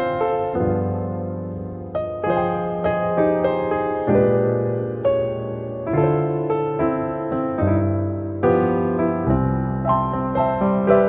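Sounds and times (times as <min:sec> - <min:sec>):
soft electric piano chords: 0:00.0 - 0:11.0.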